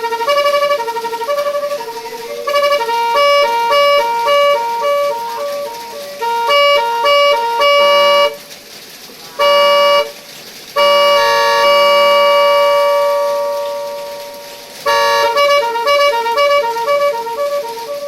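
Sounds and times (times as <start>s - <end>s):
long held horn chord: 0.0s - 8.4s, 9.4s - 10.1s, 10.8s - 18.0s
multi-trumpet electric horn melody: 0.0s - 8.5s, 9.3s - 10.2s, 10.8s - 18.0s.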